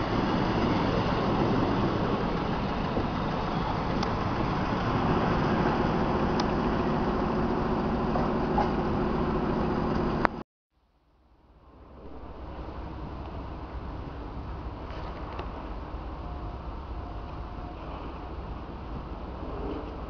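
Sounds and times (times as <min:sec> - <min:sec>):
train wheels rumbling on rails: 0:00.0 - 0:10.4, 0:11.6 - 0:20.0.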